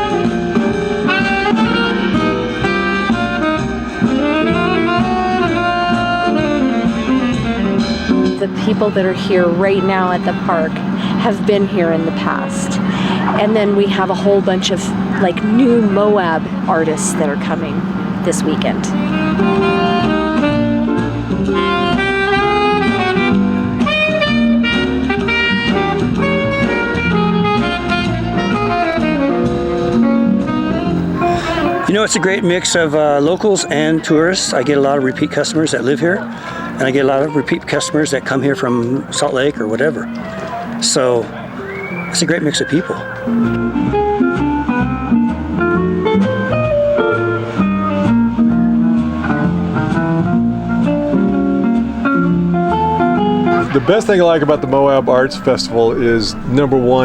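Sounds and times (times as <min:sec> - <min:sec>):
bass line: 0:00.0 - 0:57.0
saxophone melody: 0:00.0 - 0:57.0.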